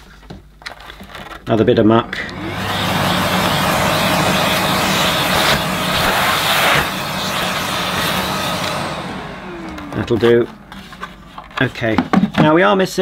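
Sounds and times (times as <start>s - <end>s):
handheld vacuum cleaner running: 1.6s - 12.6s.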